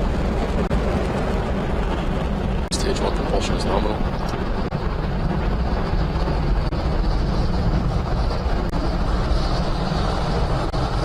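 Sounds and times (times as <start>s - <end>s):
rocket engines deep rumble: 0.0s - 11.0s.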